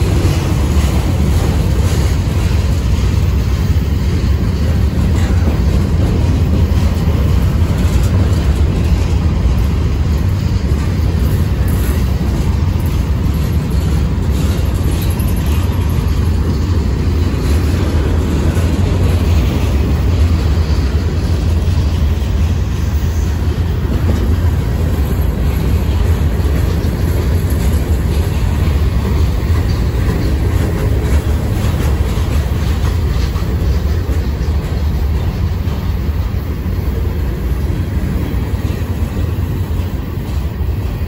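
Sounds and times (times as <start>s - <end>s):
steel wheels rumbling on rails: 0.0s - 41.0s.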